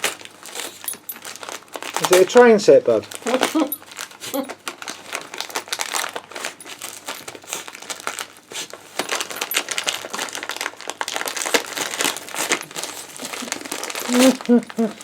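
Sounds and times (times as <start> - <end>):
wrapping paper crinkling: 0.0 - 15.0.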